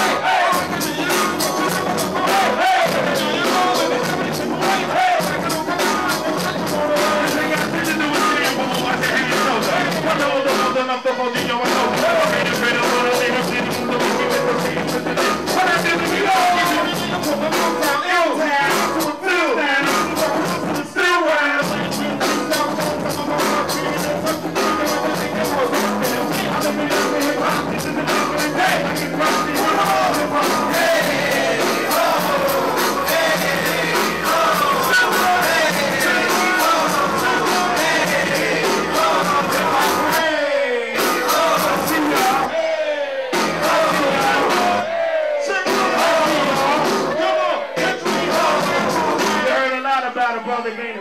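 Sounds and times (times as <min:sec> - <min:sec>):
hip hop beat: 0:00.0 - 0:50.1
rapping into a microphone: 0:00.0 - 0:51.0.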